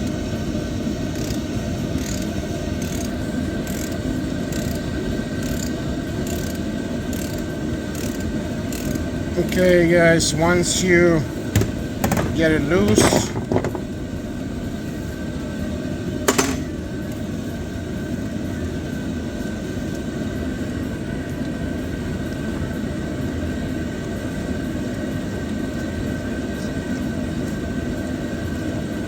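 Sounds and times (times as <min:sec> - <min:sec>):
mechanical hum with faint whine: 0:00.0 - 0:29.0.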